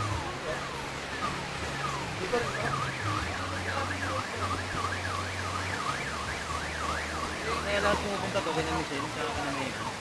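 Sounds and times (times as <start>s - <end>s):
electronic siren yelping: 0.0s - 8.0s, 8.7s - 10.0s
floodwater rushing: 0.0s - 10.0s.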